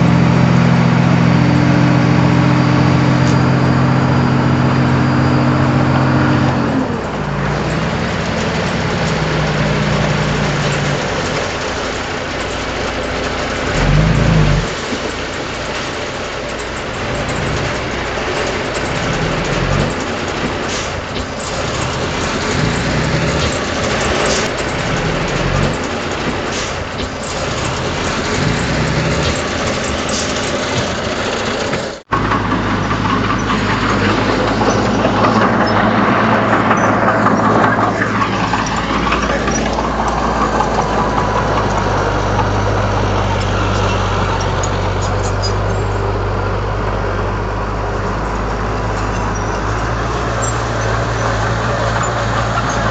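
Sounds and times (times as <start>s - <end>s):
diesel engine running loudly: 0.0s - 52.9s
low engine drone: 0.0s - 52.9s.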